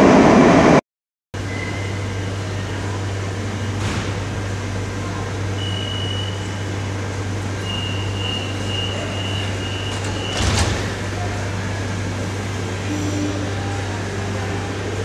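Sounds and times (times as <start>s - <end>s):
train equipment humming: 1.4s - 15.0s.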